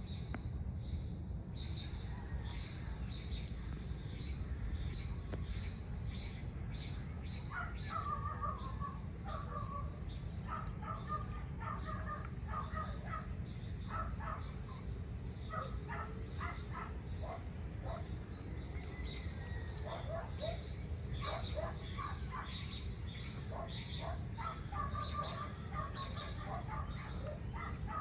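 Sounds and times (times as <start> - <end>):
high insect drone: 0.0 - 28.0
low background rumble: 0.0 - 28.0
birds calling: 4.2 - 28.0.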